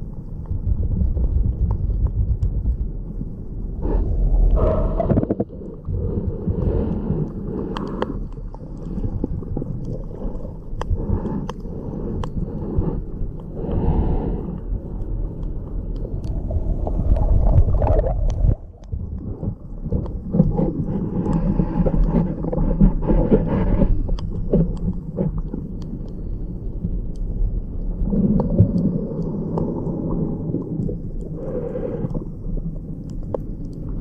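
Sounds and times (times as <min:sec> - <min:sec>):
underwater rumbling and gurgling: 0:00.0 - 0:34.0.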